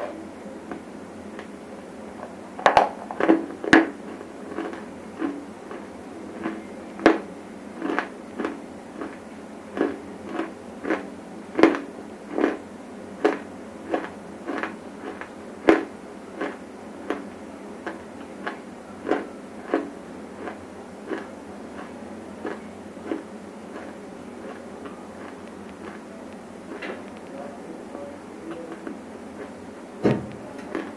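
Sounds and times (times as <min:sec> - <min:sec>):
crunchy chewing: 0:00.6 - 0:30.9.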